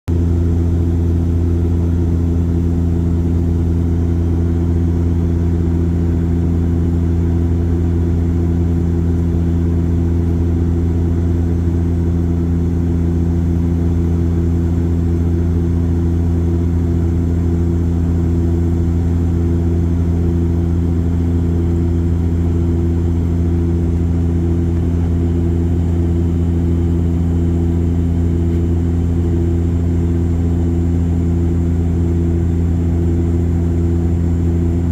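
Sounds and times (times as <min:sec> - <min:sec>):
airliner engines droning in cabin: 0:00.1 - 0:34.9.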